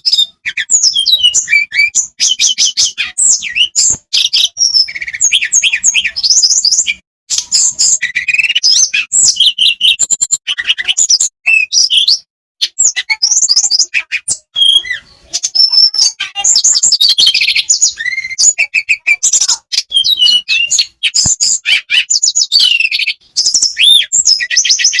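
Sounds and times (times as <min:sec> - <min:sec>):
bird song with whistles and trills: 0:00.0 - 0:25.0.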